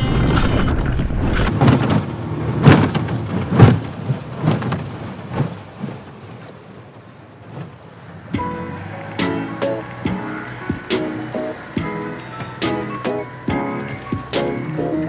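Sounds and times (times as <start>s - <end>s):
water slapping metal hull: 1.4s - 15.0s
outboard motor rumble: 1.5s - 15.0s.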